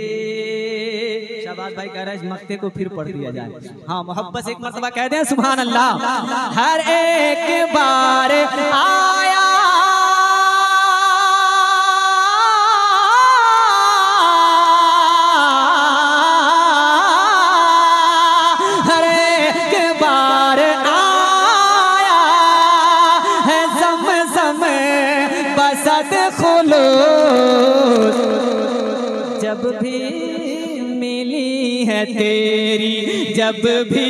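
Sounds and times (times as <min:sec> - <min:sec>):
man singing into a microphone: 0:00.0 - 0:34.0.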